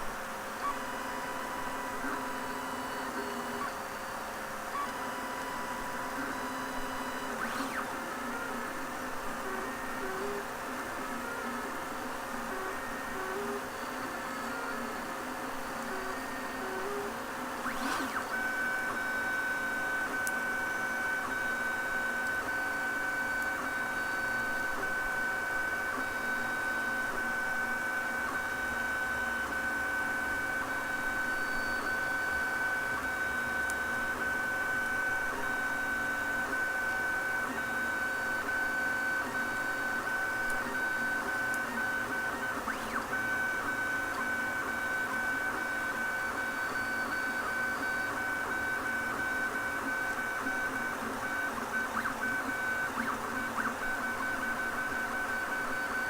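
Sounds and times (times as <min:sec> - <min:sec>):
printer motors whining: 0:00.0 - 0:56.0.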